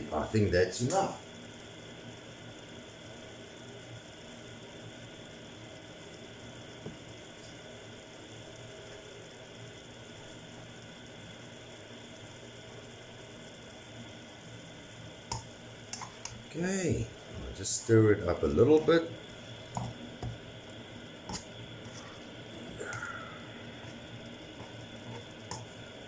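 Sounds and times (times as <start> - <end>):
seafood simmering in a pan: 1.2 - 17.3, 19.2 - 26.0.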